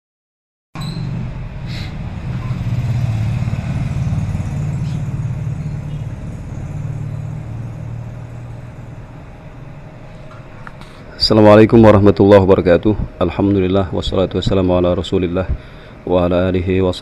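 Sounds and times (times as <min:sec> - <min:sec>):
low engine rumble: 0:01.0 - 0:17.0.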